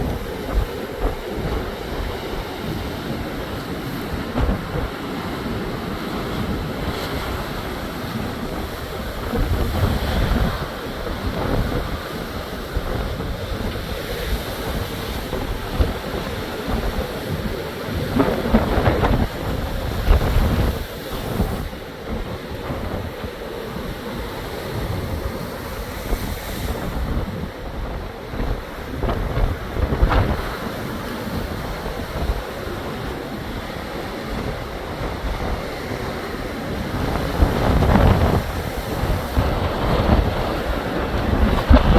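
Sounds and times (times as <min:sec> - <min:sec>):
waves breaking: 0:00.0 - 0:41.9
wind buffeting microphone: 0:00.0 - 0:41.9.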